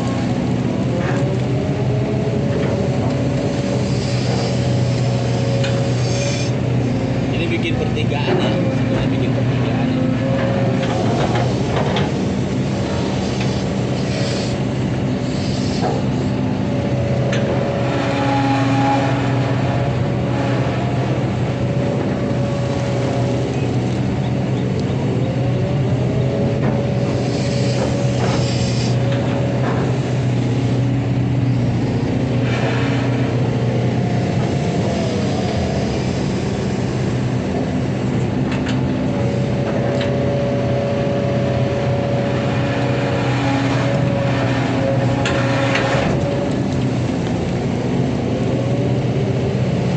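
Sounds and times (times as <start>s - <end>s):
diesel engine running: 0.0s - 49.9s
hydraulic pump whine: 0.0s - 49.9s.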